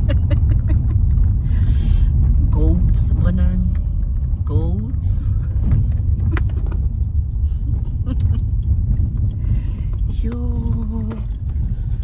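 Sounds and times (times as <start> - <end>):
car rumbling on dirt road: 0.0 - 12.0.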